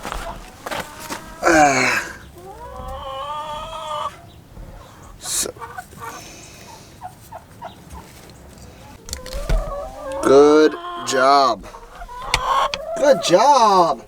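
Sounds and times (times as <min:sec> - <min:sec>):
turkey clucking: 0:00.0 - 0:14.0
turkey hen calling: 0:00.0 - 0:14.0.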